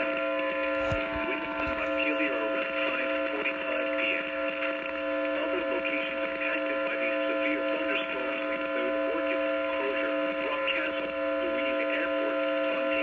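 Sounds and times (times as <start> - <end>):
buzzing radio hum: 0.0 - 13.0.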